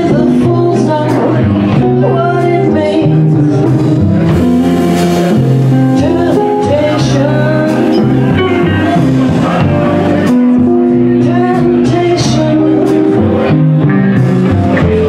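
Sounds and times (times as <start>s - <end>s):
electric guitar bending notes: 0.0s - 15.0s
live blues band: 0.0s - 15.0s.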